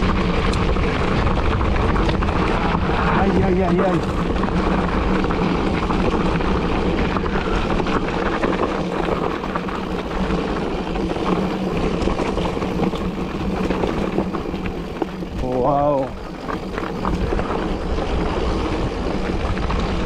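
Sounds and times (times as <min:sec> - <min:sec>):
bike tyres rumbling on trail: 0:00.0 - 0:20.0
wind buffeting microphone: 0:00.0 - 0:20.0.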